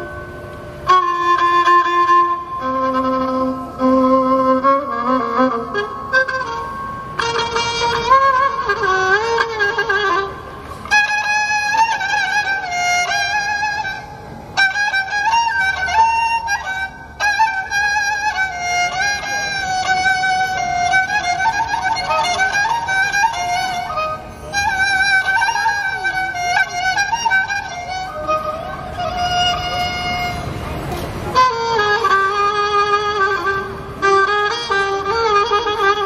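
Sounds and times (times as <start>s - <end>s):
bowed fiddle melody: 0.0s - 36.0s.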